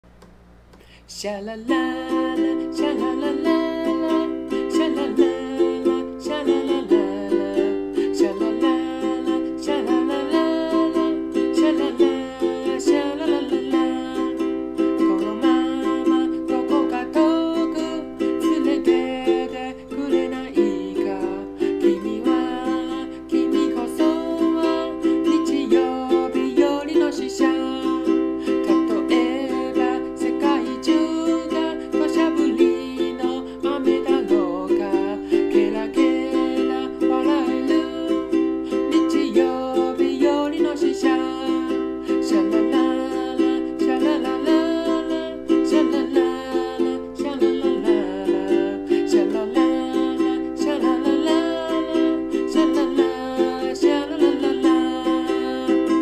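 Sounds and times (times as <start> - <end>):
man singing: 1.1 - 56.0
ukulele strummed: 1.5 - 56.0.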